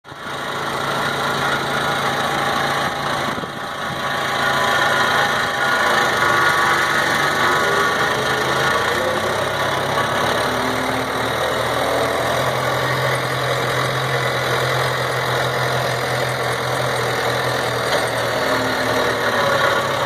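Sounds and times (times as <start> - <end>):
engine idling: 0.1 - 20.0.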